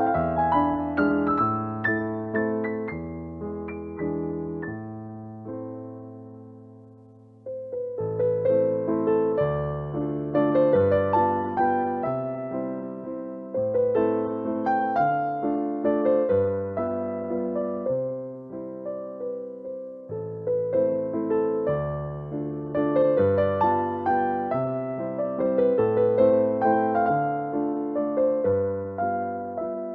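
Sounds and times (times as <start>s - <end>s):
electric piano melody: 0.0s - 29.9s.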